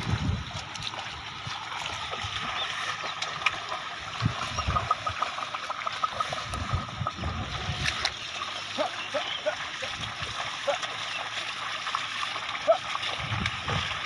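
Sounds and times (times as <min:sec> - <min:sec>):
hooves and plough splashing in water: 0:00.0 - 0:14.0
hooves thudding in mud: 0:00.0 - 0:14.0.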